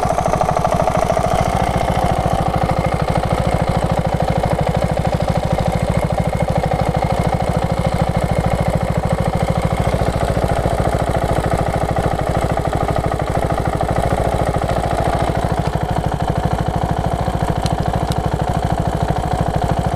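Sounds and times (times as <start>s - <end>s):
engine ticking: 0.0s - 19.9s
motorcycle engine idling: 0.0s - 19.9s.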